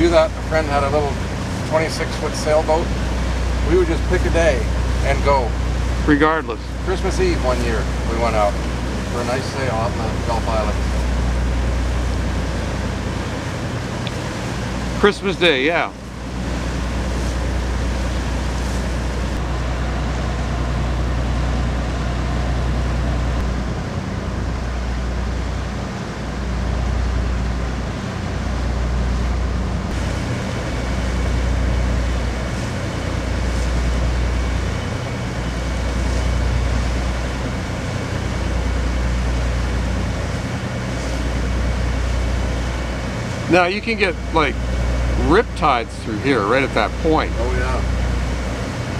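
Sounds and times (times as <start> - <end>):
boat engines droning: 0.0 - 48.9
rushing water noise: 0.0 - 48.9.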